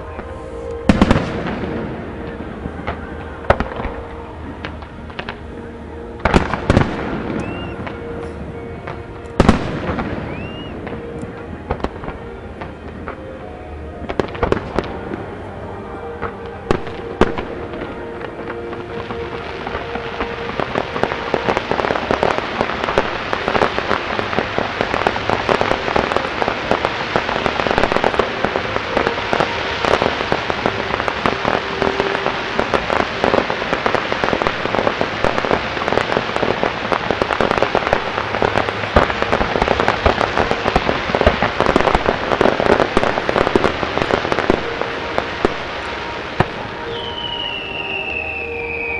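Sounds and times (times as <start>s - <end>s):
dense fireworks crackling: 0.0s - 48.9s
rising firework whistle: 0.0s - 48.9s.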